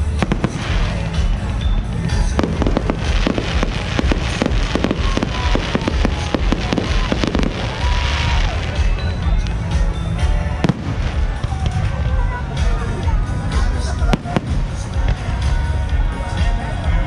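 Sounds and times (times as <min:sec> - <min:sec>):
fireworks bangs and crackles: 0:00.0 - 0:16.6.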